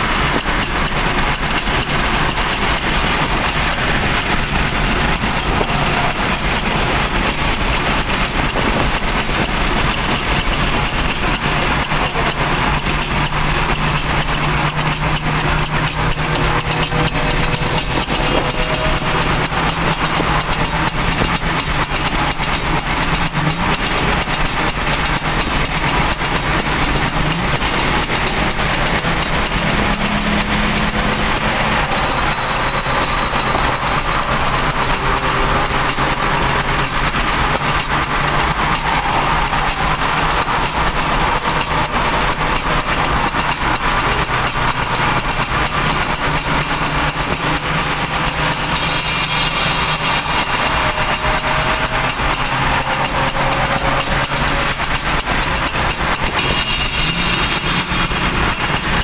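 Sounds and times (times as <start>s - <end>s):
low engine drone: 0.0s - 59.0s
music with quick beat: 0.0s - 59.0s
road and wind noise in car: 0.0s - 59.0s.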